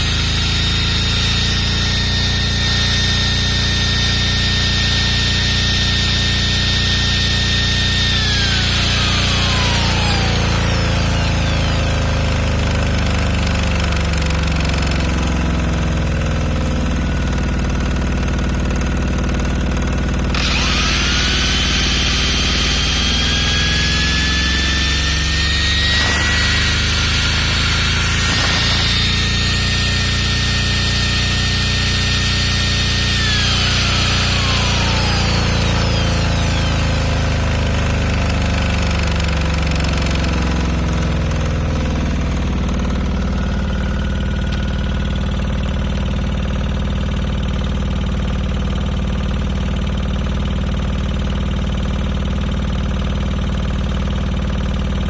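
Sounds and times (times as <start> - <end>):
diesel generator running: 0.0 - 55.0
power tool whine: 0.0 - 55.0.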